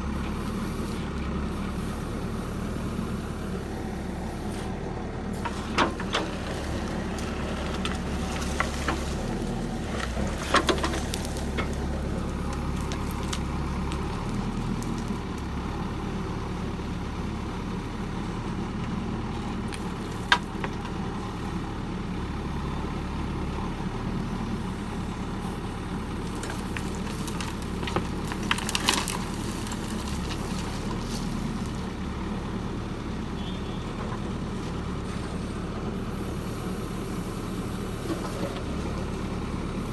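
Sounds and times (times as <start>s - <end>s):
diesel machinery rumbling: 0.0s - 39.9s.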